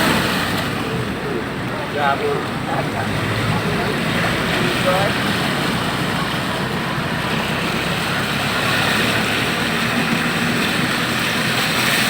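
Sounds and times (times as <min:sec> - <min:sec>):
steady wash of water noise: 0:00.0 - 0:12.0
vehicle engines running: 0:00.0 - 0:12.0.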